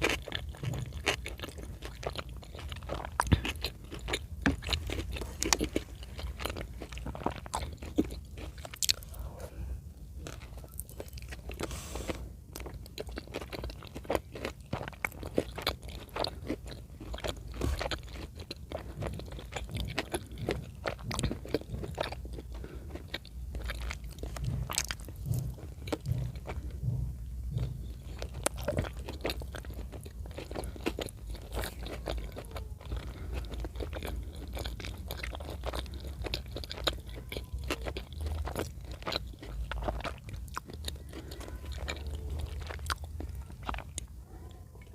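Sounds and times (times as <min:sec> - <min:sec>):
close chewing and biting: 0:00.0 - 0:44.9.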